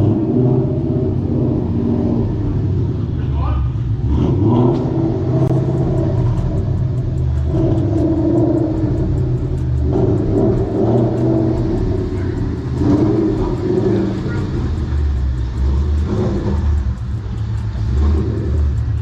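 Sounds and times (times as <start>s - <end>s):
car engine and exhaust running: 0.0s - 19.0s.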